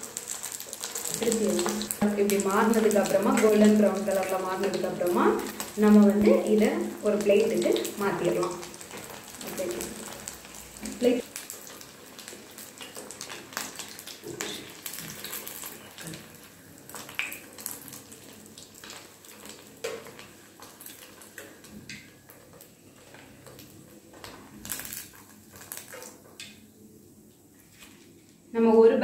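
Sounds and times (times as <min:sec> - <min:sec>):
fritters sizzling in hot oil: 0:00.0 - 0:27.0.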